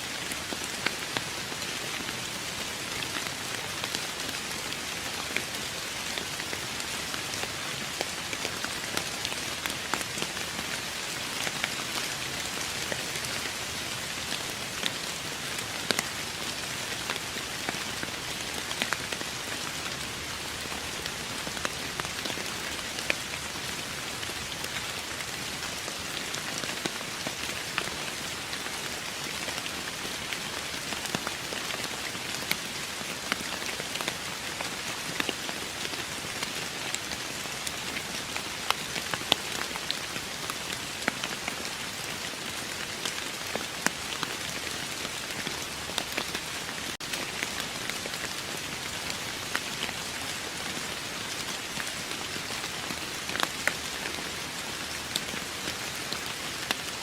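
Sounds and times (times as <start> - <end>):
steady rain hiss: 0.0 - 57.0
raindrops pattering: 0.2 - 57.0.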